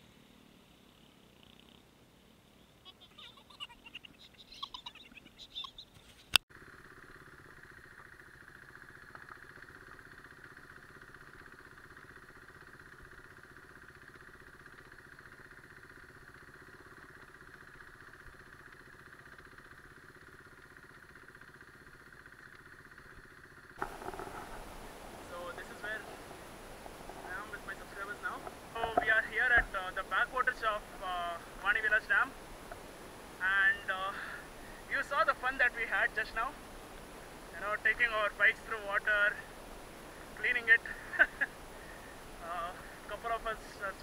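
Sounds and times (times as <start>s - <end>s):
motorcycle engine running steadily: 0.0s - 2.8s, 6.5s - 44.0s.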